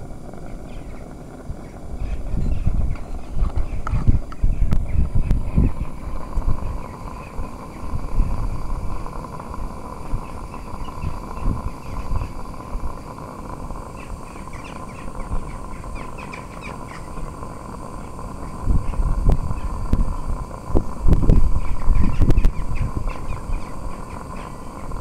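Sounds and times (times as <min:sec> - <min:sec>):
steam locomotive exhaust beats: 0:00.0 - 0:25.0.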